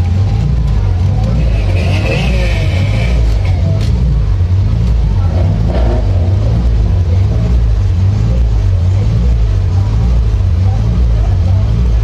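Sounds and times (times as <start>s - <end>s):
race car engine droning: 0.0s - 12.0s.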